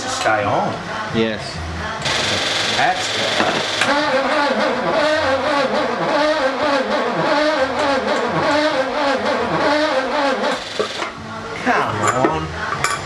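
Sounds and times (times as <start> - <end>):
starter motor cranking engine: 0.0 - 13.0.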